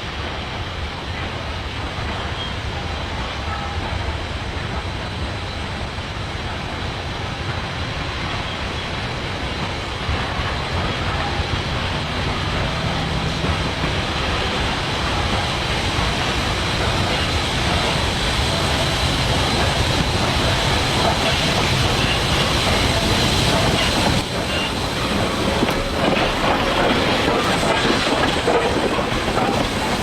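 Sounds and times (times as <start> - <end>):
train rolling: 0.0 - 30.0.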